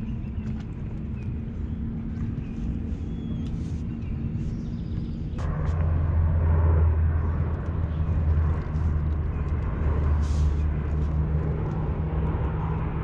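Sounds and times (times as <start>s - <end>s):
propeller airplane drone: 0.0s - 13.0s.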